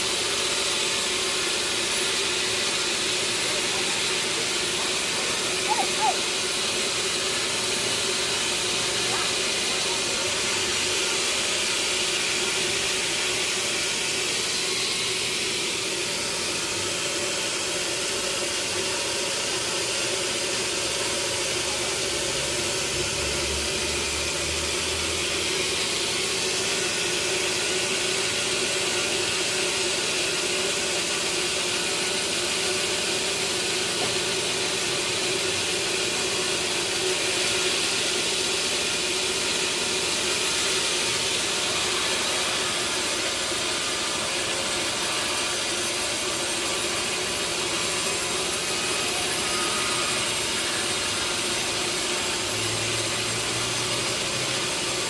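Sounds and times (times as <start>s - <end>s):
sawmill saw running: 0.0s - 55.0s.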